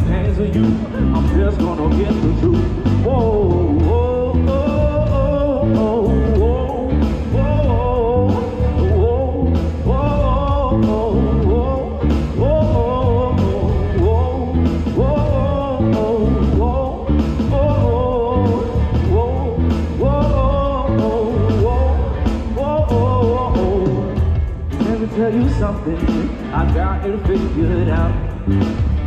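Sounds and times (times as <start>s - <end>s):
band playing blues rock: 0.0s - 29.0s
electric guitar lead line: 0.0s - 29.0s.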